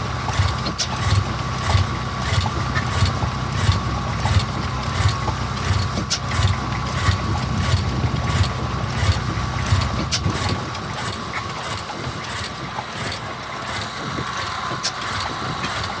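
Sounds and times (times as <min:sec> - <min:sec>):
stationary engine running: 0:00.0 - 0:16.0.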